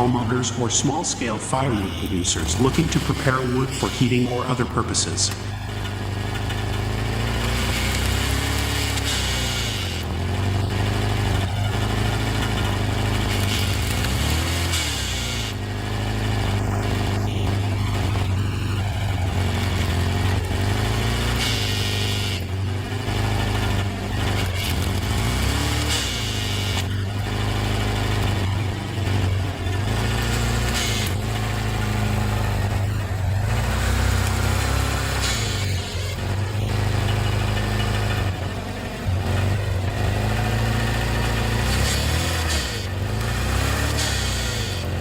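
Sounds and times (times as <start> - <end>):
hydraulic wood splitter engine: 0.0 - 45.0.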